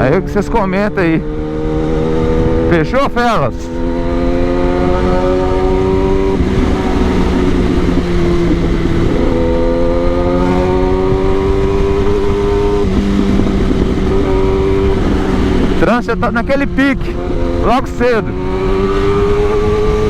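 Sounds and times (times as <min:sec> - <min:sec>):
low wind rush: 0:00.0 - 0:20.0.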